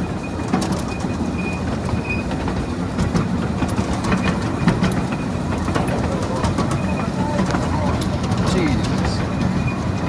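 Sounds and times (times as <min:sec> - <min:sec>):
miniature train wheels rumbling: 0:00.0 - 0:10.0.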